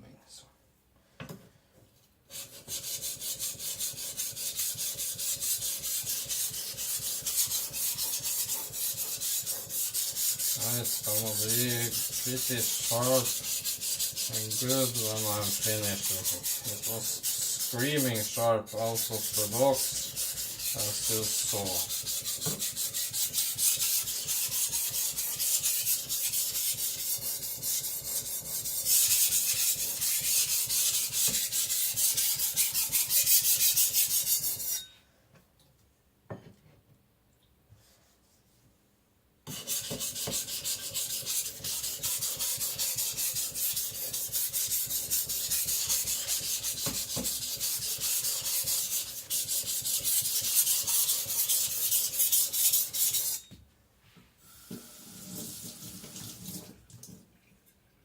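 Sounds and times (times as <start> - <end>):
blade scraping on whetstone: 2.4 - 34.9, 39.5 - 53.5.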